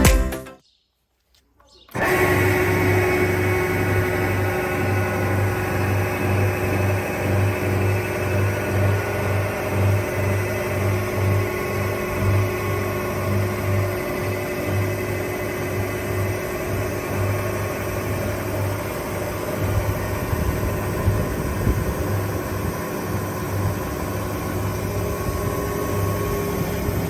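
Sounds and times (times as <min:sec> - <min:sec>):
circular saw motor humming: 0:01.9 - 0:27.0.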